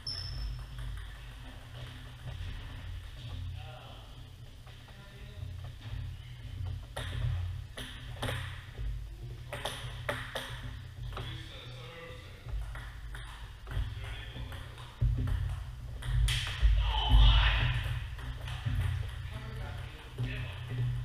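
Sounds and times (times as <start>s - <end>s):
table tennis balls bouncing: 0.0s - 3.5s, 4.6s - 21.0s
steady low hum: 0.0s - 21.0s.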